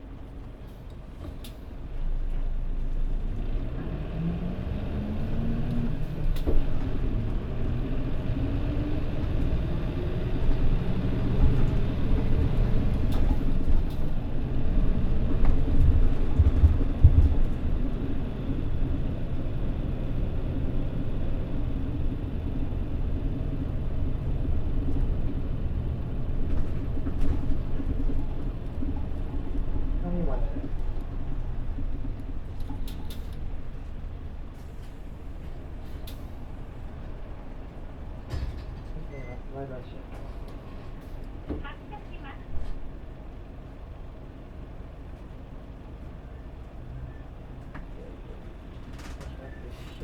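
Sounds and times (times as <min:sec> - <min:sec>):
bus diesel engine: 0:00.0 - 0:50.0
road rumble: 0:00.0 - 0:50.0.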